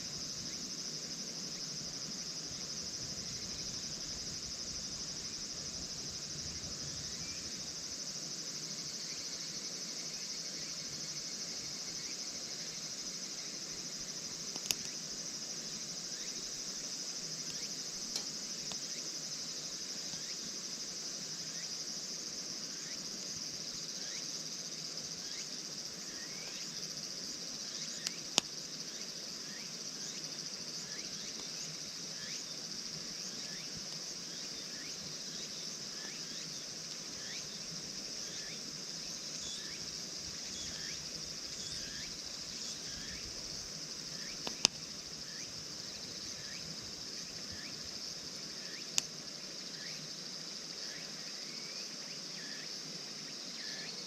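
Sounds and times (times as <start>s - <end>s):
crickets chorus: 0.0s - 54.0s.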